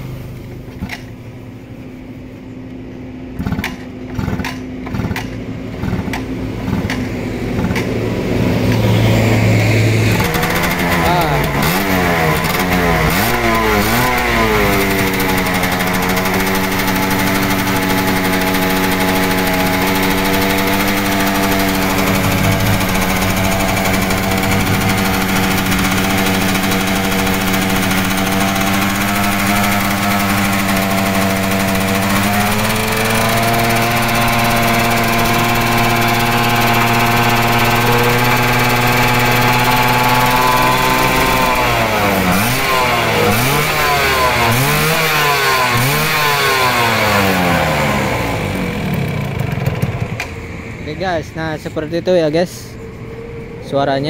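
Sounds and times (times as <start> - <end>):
two-stroke motorcycle engine revving: 0.0 - 1.8, 2.6 - 54.0.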